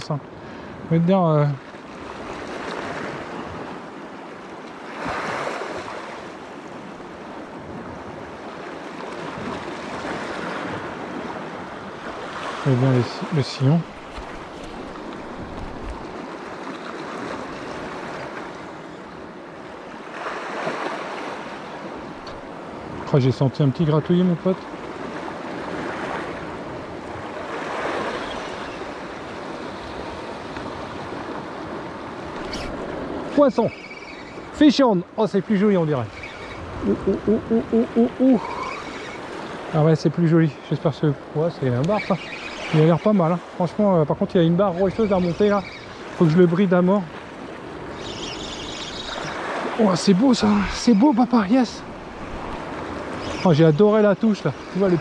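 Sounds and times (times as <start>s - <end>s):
sea waves washing on shore: 0.0s - 55.0s.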